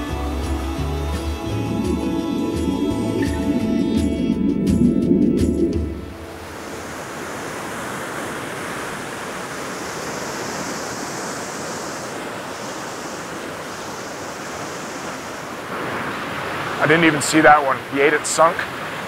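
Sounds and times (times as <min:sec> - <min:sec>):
fast river water: 0:00.0 - 0:05.0, 0:05.6 - 0:19.0
waterfall rushing: 0:00.0 - 0:19.0.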